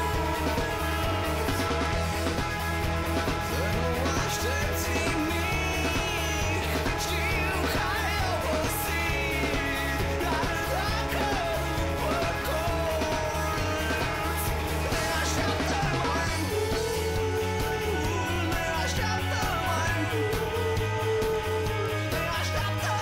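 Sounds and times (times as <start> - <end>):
man singing: 0.0 - 23.0
punk rock song: 0.0 - 23.0.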